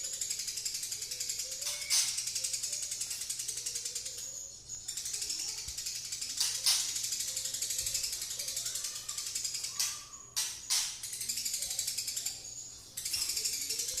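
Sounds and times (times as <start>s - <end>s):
sharp sparrow chirps: 0.0s - 14.0s
sparrow chattering song: 0.0s - 14.0s.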